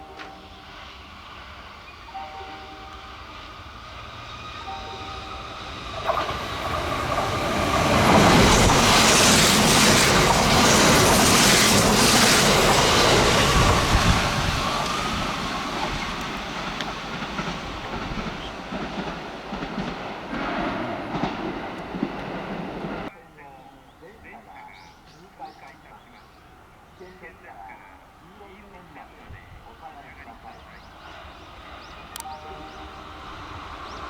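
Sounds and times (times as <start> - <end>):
electric train passing: 0.0 - 23.4, 24.2 - 34.0.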